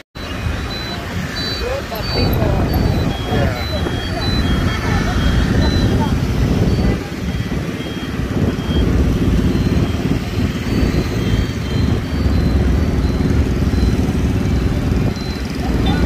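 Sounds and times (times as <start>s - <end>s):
heavy low rumble: 0.2s - 16.0s
motorbike engines passing: 0.2s - 16.0s.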